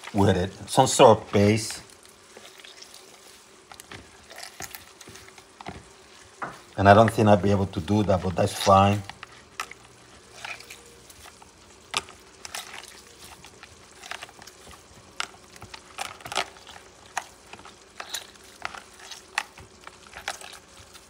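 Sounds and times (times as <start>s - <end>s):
wet bread squelching: 0.0s - 21.0s.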